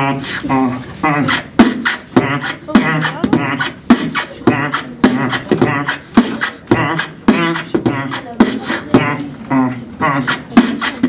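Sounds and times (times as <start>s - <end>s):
man beatboxing into microphone: 0.0s - 11.0s.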